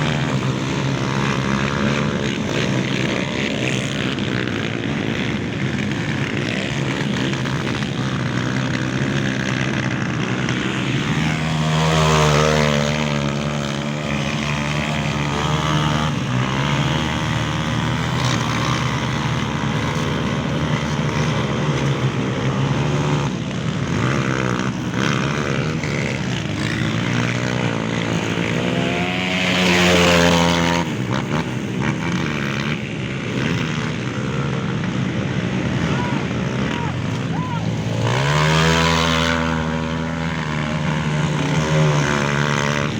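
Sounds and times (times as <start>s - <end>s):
dirt bike engines revving: 0.0s - 42.9s.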